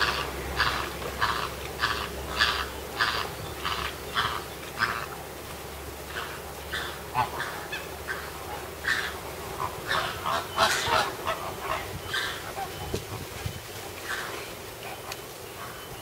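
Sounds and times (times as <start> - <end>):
flamingos honking: 0.0 - 16.0.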